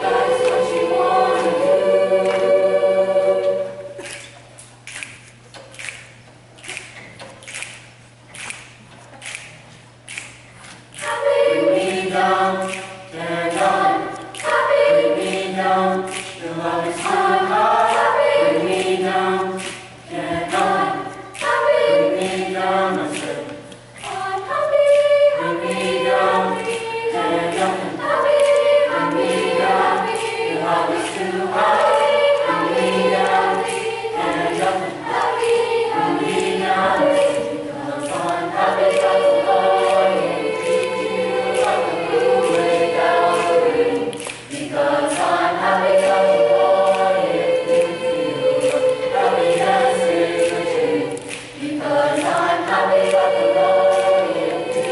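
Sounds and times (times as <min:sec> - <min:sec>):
school choir singing: 0:00.0 - 0:04.1, 0:11.0 - 0:54.9.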